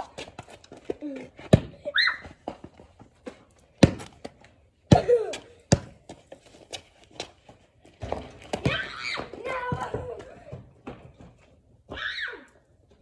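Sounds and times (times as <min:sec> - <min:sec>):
basketball bouncing on concrete: 0:00.0 - 0:11.4.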